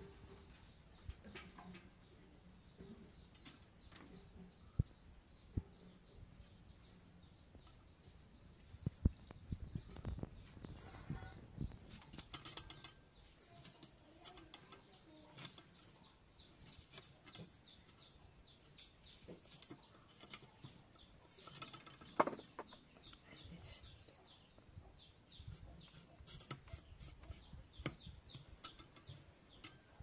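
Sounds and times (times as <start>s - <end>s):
faint bird chirps: 0.0s - 30.0s.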